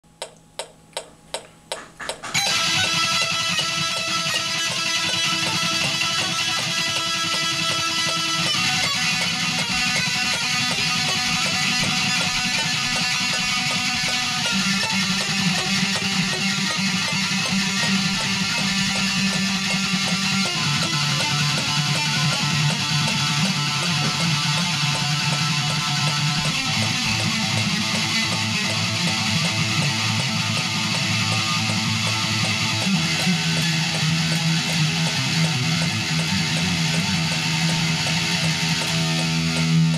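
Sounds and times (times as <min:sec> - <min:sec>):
count-in clicks: 0:00.0 - 0:39.9
electric guitar playing fast lines: 0:01.8 - 0:39.9.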